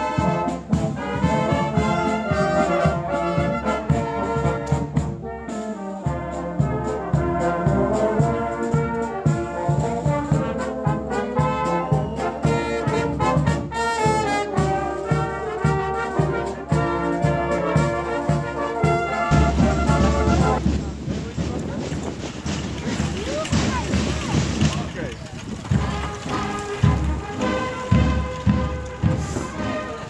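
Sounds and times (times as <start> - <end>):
brass band playing: 0.0 - 30.0
steady drum beat: 0.0 - 30.0.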